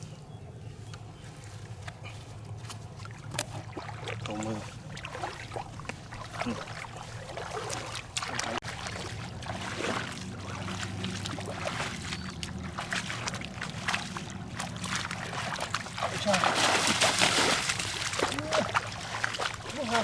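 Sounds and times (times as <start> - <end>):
water splashing and trickling: 1.3 - 20.0.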